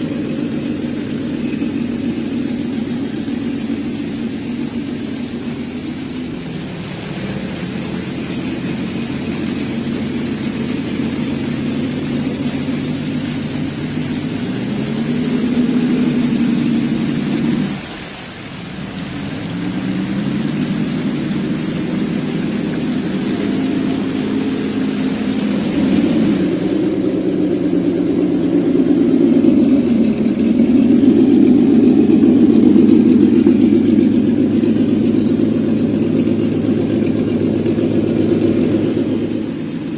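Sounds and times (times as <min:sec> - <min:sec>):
simulated engine sound from speaker: 0:00.0 - 0:39.9
steady high whine: 0:00.0 - 0:39.9.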